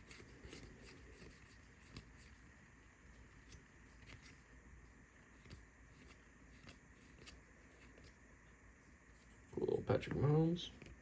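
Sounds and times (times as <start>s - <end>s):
cards rustling: 0.0s - 11.0s
low room hum: 0.0s - 11.0s.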